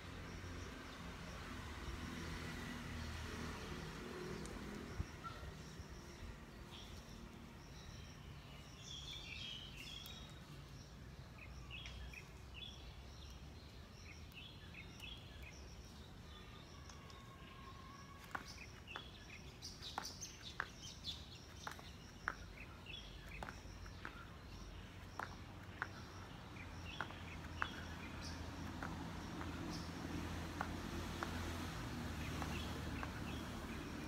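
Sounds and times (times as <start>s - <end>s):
low outdoor background noise: 0.0s - 34.0s
small birds chirping: 0.0s - 34.0s.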